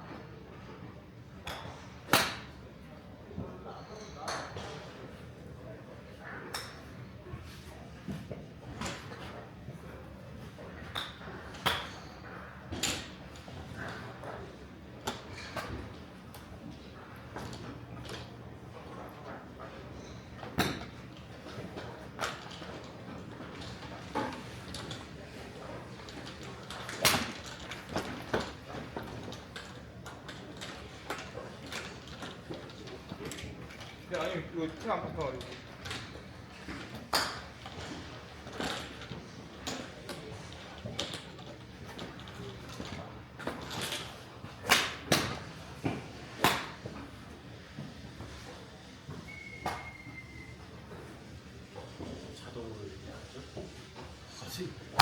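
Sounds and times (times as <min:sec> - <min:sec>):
golf clubs striking balls: 0:00.1 - 0:05.2, 0:06.5 - 0:52.4, 0:53.0 - 0:55.0.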